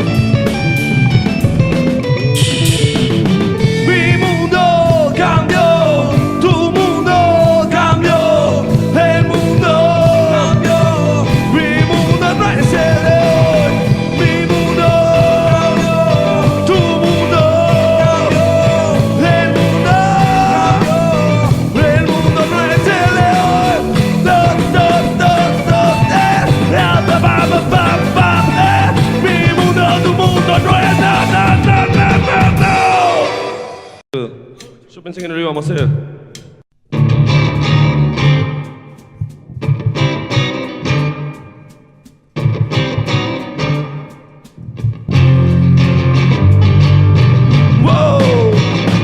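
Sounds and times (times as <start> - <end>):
rock band playing live: 0.0 - 34.0, 36.9 - 49.0.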